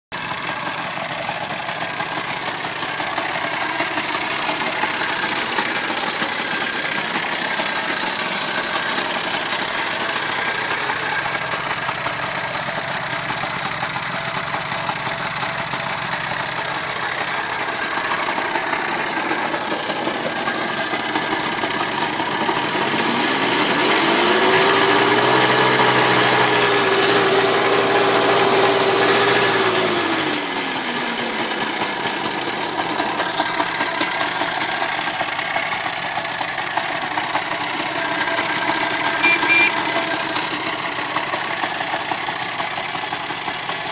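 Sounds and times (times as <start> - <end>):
two-stroke scooter engine: 0.1 - 43.9.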